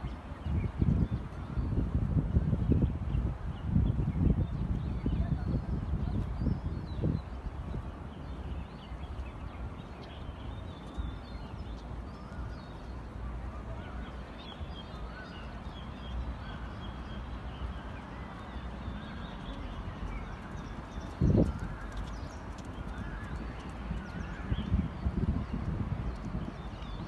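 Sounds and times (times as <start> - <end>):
small birds chirping: 2.6 - 27.0.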